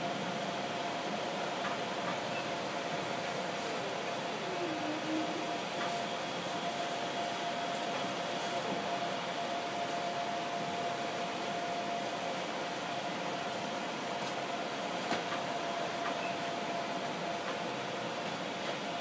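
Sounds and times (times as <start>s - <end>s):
electric train running noise: 0.0s - 19.0s.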